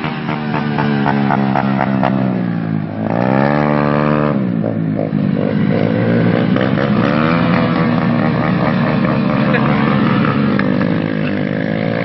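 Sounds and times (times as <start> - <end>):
motorcycle engines running loudly: 0.0 - 12.0.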